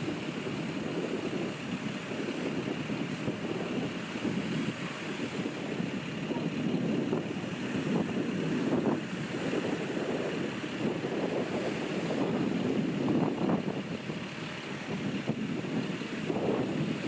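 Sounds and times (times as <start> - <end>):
ocean waves washing at shore: 0.0 - 17.0
wind on microphone: 0.0 - 17.0.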